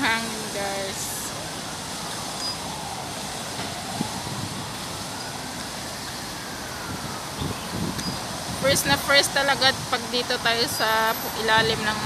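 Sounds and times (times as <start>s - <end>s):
city background noise: 0.0s - 12.0s
distant siren wailing: 0.0s - 12.0s.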